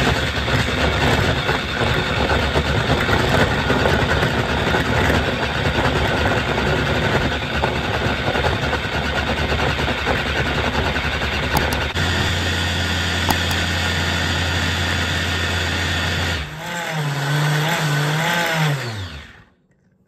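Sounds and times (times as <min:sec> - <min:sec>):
blender motor running: 0:00.0 - 0:19.6.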